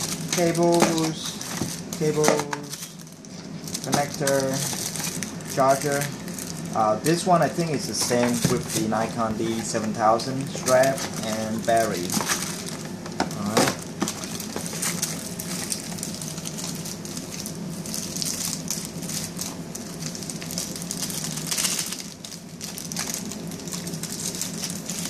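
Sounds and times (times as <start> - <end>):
plastic bags crinkling: 0.0 - 25.0.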